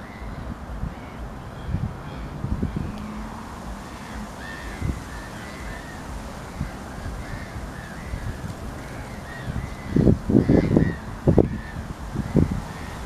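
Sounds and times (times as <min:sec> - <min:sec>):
waterbirds calling: 0:00.0 - 0:13.0.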